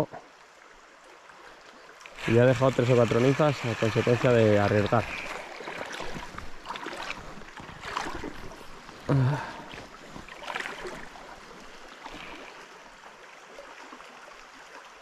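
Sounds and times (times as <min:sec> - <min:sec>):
river water flowing: 0:00.0 - 0:15.0
water sloshing splashes: 0:01.1 - 0:15.0.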